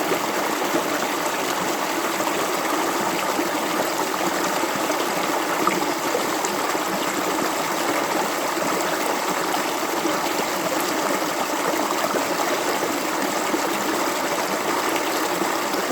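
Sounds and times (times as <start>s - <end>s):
water flowing over stones: 0.0s - 15.9s.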